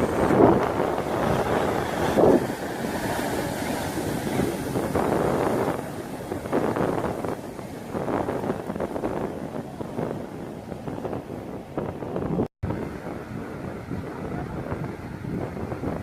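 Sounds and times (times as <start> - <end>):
sea water washing on shore: 0.0 - 12.0, 12.7 - 16.0
wind buffeting microphone: 0.0 - 16.0.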